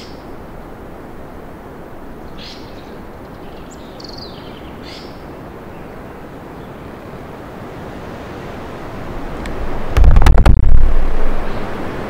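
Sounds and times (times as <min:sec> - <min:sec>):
wind through trees: 0:00.0 - 0:12.0.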